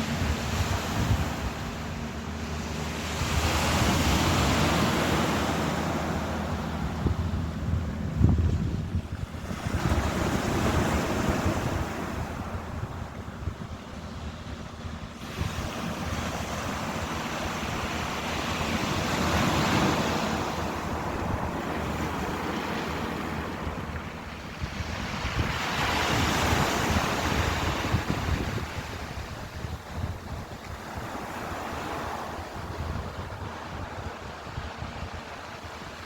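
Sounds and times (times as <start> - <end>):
ocean waves breaking: 0.0 - 36.0.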